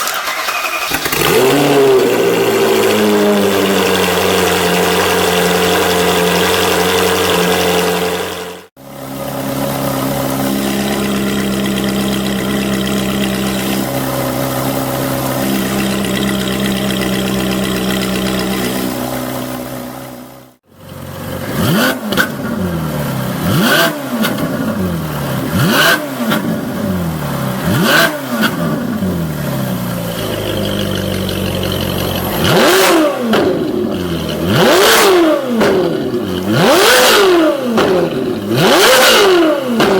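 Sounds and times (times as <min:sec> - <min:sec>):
sports car engine revving: 0:00.8 - 0:39.9.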